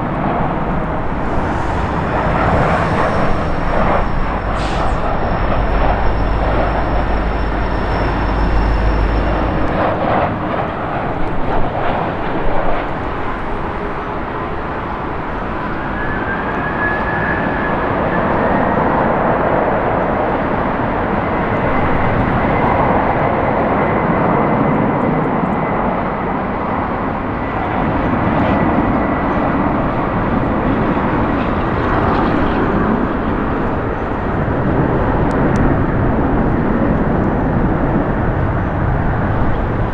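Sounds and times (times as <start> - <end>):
jet engine low rumble: 0.0 - 39.9
jet engine noise with whine: 0.0 - 39.9.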